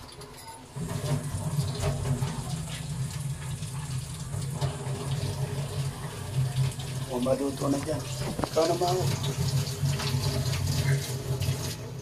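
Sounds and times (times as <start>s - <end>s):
food bubbling and sputtering in tin: 0.0s - 12.0s
gas burner flame rumble: 0.8s - 12.0s.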